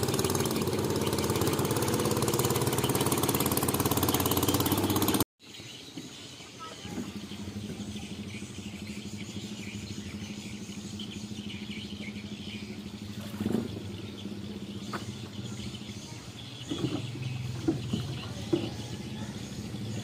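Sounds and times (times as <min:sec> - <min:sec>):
small engine running: 0:00.0 - 0:05.3, 0:06.4 - 0:20.0.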